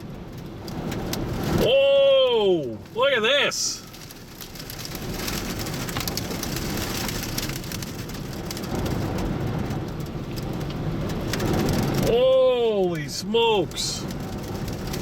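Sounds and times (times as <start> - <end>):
rain ticking on body and glass: 0.0 - 15.0
wind-driven rain beating on vehicle: 0.0 - 15.0.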